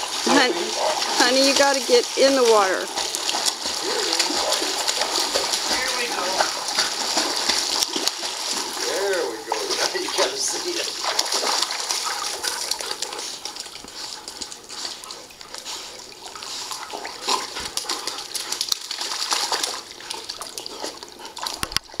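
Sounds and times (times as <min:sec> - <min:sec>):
pool water splashing: 0:00.0 - 0:22.0.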